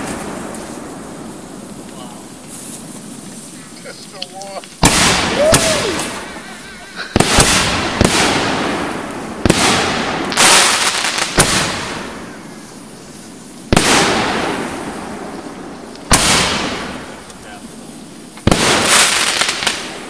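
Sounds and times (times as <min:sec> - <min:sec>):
fireworks bangs with crackle: 0:00.0 - 0:20.0.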